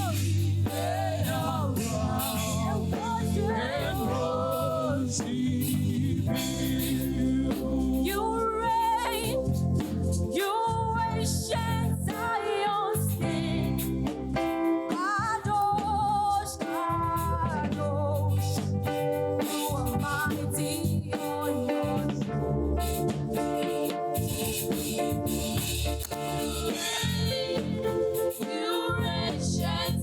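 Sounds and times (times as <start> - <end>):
regular beat: 0.0 - 10.6, 13.3 - 30.0
choir singing gospel song: 0.0 - 15.8, 16.4 - 30.0.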